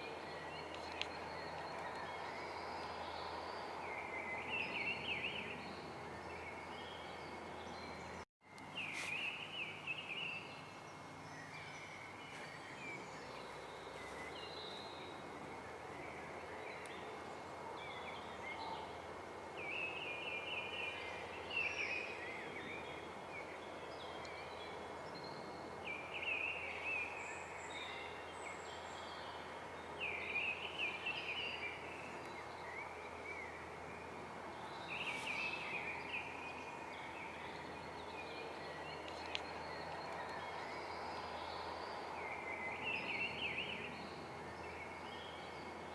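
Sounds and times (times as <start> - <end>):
outdoor background hiss: 0.0 - 45.9
songbird chirping: 0.0 - 45.9.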